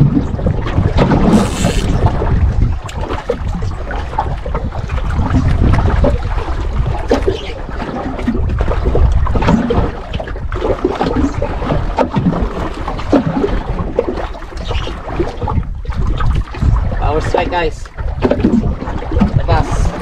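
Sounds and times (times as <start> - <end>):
water lapping against boat hull: 0.0 - 20.0
wind rumbling on microphone: 0.0 - 20.0.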